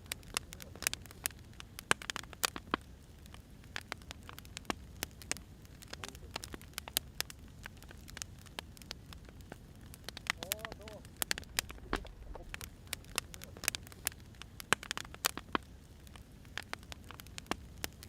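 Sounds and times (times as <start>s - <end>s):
firewood crackling and popping: 0.0s - 18.0s
low rumble of fire: 0.0s - 18.0s.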